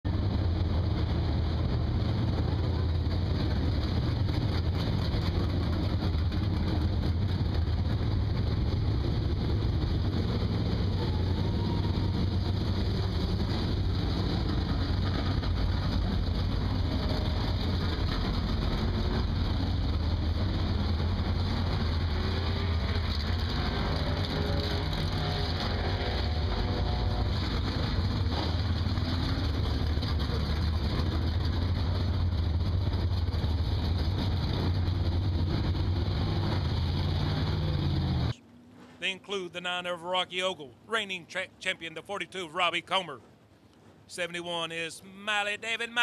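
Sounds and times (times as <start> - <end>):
race car engines idling: 0.1 - 46.0.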